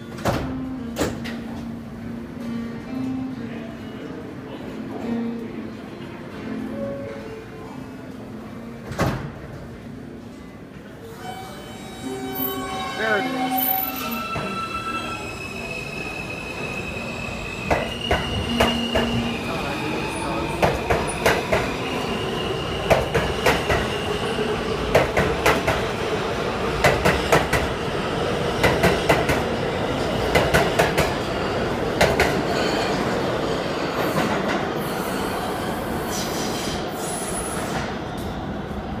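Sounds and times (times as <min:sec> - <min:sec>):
subway train rumbling: 0:00.0 - 0:39.0.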